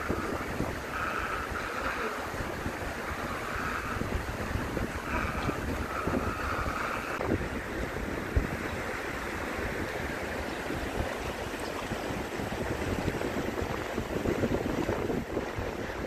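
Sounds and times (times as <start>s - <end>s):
shallow stream running: 0.0s - 16.0s
wind buffeting microphone: 0.0s - 16.0s.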